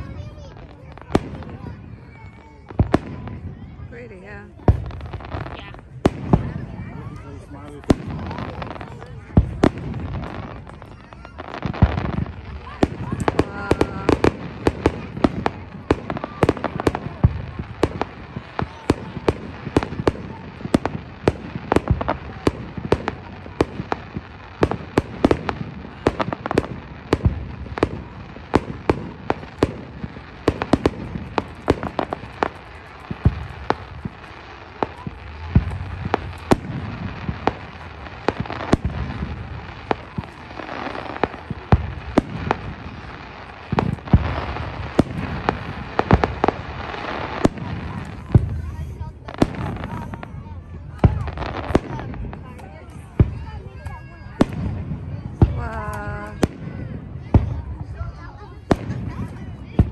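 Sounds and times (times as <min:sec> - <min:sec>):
fireworks bursting with sharp bangs: 0:00.0 - 0:59.9.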